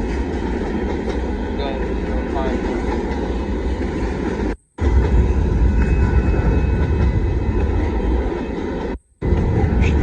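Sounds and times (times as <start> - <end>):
freight train rumbling past: 0.0 - 10.0
train cars clattering on rails: 0.0 - 10.0.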